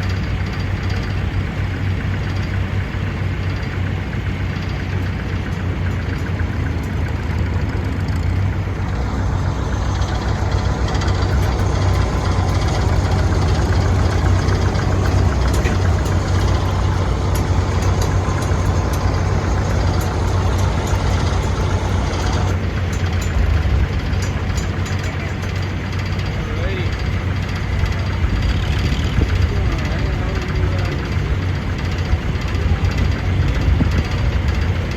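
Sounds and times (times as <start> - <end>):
tractor engine humming: 0.0 - 34.9.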